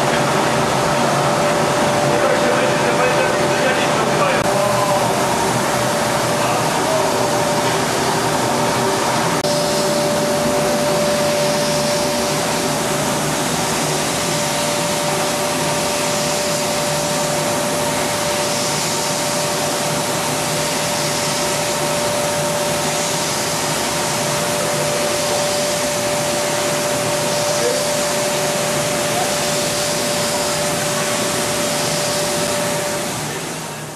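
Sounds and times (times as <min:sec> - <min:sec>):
machine whine: 0:00.0 - 0:33.9
rushing air and spray: 0:00.1 - 0:33.9.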